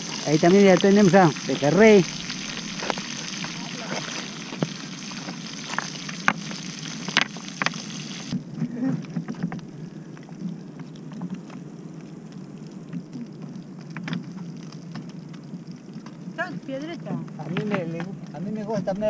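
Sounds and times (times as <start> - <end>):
fish sizzling in oil: 0.0 - 18.6.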